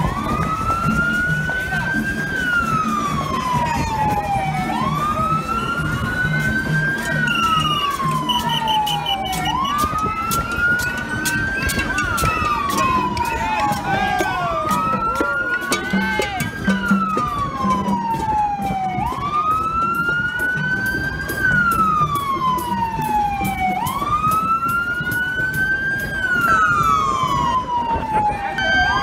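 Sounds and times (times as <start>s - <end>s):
emergency siren wailing: 0.0s - 29.0s.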